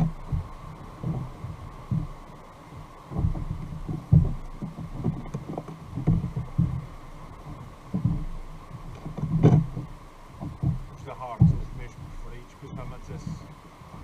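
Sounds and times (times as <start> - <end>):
water slapping kayak hull: 0.0 - 14.0.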